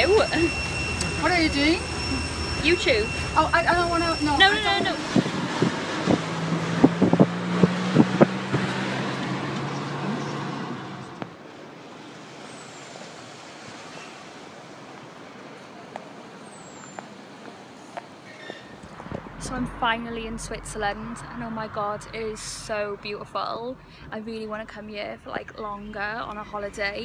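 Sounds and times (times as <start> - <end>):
car engine and road hum: 0.0 - 27.0
outdoor street ambience: 0.0 - 27.0.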